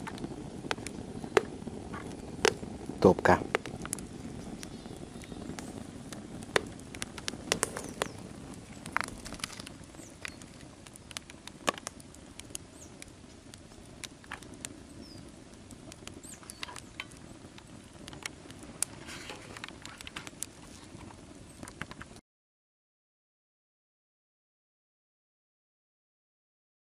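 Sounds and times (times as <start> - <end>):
low hiss of burning: 0.0 - 22.2
wood fire crackling and popping: 0.0 - 22.2.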